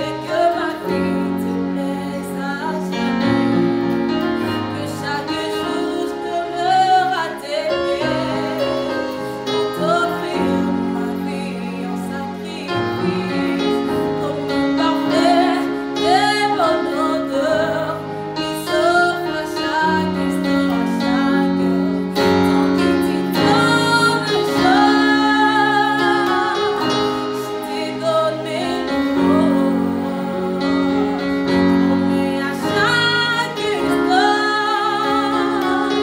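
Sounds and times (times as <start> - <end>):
electronic keyboard chords: 0.0 - 36.0
woman singing: 0.0 - 36.0.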